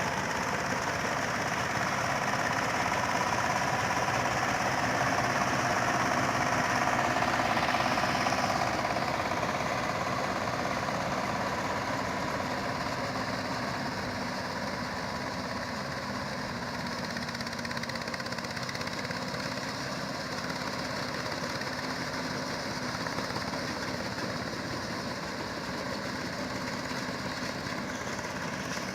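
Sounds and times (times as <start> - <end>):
combine harvester engine running: 0.0 - 28.9.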